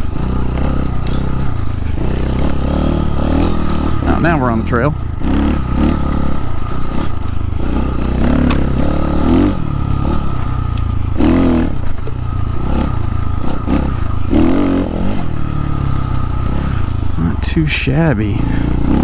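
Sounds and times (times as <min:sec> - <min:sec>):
clatter and scraping: 0:00.0 - 0:04.3, 0:05.2 - 0:17.4
dirt bike engine revving: 0:00.0 - 0:19.0.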